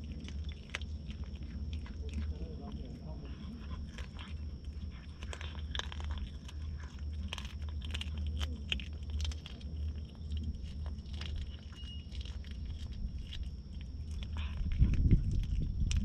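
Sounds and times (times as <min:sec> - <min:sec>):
cat crunching raw fish: 0:00.0 - 0:16.0
steady low rumble: 0:00.0 - 0:16.0.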